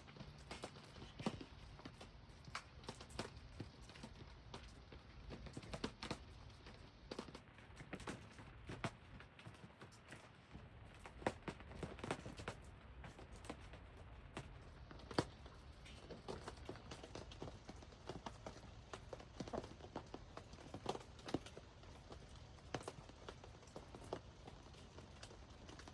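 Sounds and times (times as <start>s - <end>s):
rain dripping and tapping: 0.0s - 25.9s.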